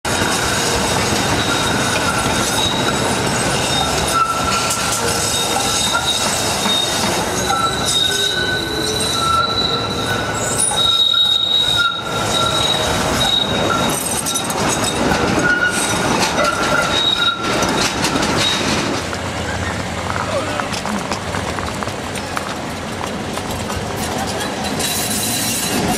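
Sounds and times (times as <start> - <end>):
tram rumble: 0.1 - 25.9
tram wheels squealing on curves: 0.1 - 25.9
wheels clacking over rail crossings: 0.1 - 25.9.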